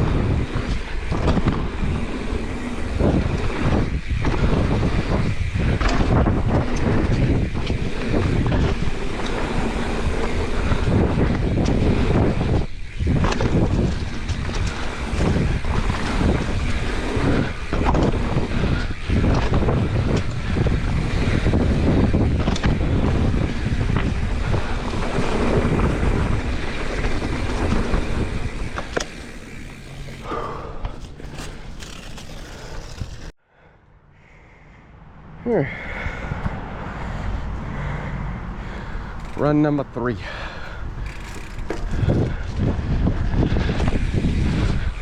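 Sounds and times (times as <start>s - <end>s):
bike knocking: 0.0s - 33.3s, 38.6s - 42.4s
tyres rumbling over dirt: 0.0s - 33.4s, 38.4s - 45.0s
wind rushing over microphone: 0.0s - 33.4s, 34.8s - 45.0s.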